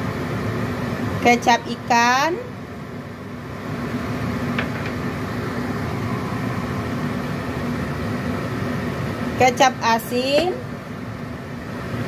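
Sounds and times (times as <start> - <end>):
faint hum: 0.0 - 12.0
gas burner rumbling: 0.0 - 12.0.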